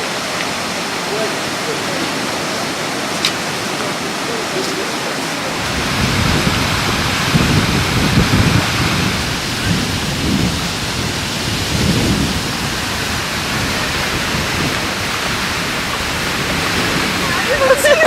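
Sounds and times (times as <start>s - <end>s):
water gushing from burst main: 0.0s - 18.0s.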